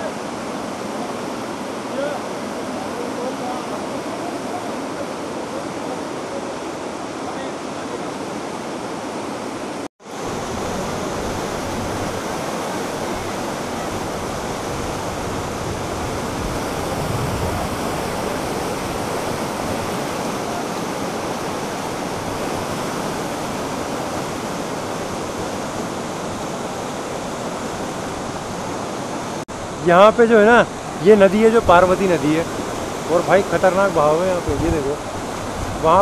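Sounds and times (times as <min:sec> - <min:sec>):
river rushing over boulders: 0:00.0 - 0:36.0.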